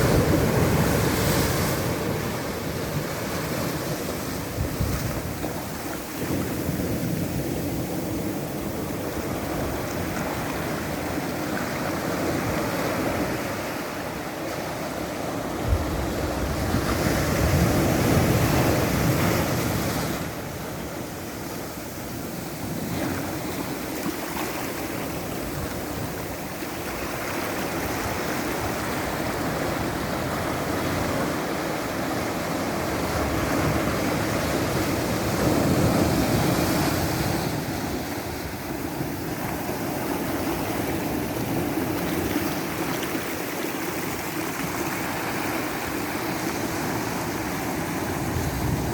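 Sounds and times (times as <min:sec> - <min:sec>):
waves breaking on shore: 0:00.0 - 0:48.9.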